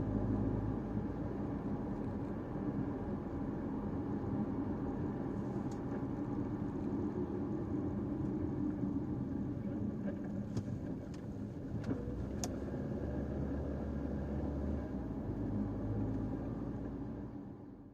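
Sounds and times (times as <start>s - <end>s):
car engine hum: 0.0s - 17.9s
road noise: 0.0s - 17.9s.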